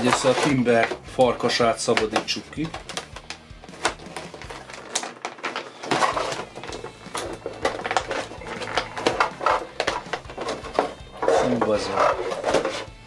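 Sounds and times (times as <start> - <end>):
plastic packaging crackling: 0.0 - 12.9.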